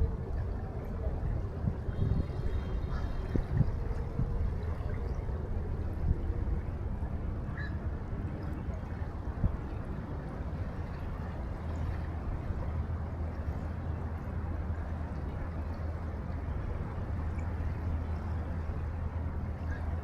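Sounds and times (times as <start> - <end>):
river water flowing: 0.0 - 20.0
wind: 0.0 - 20.0.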